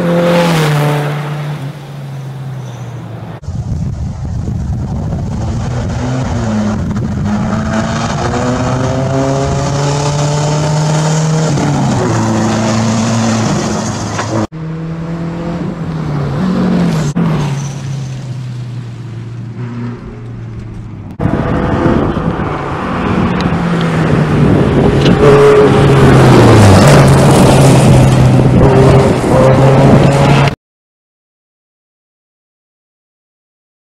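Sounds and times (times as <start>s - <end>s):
rally car engine at full throttle: 2.6s - 30.6s.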